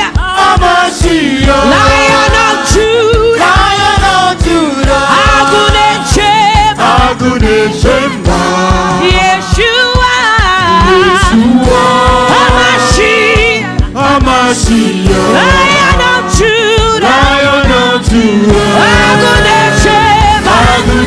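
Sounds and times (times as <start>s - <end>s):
steady drum beat: 0.0s - 21.0s
singers holding long notes: 0.1s - 21.0s.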